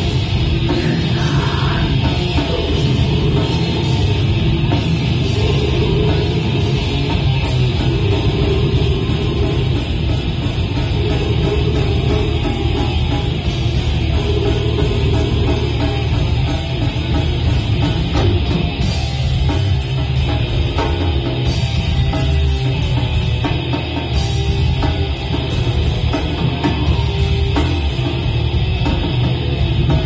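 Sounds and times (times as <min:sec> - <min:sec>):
heavy metal band playing live: 0:00.0 - 0:30.0.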